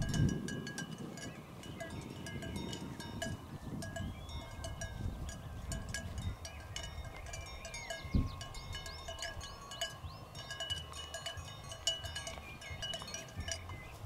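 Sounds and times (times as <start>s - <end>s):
cowbells clanking: 0.0s - 14.0s.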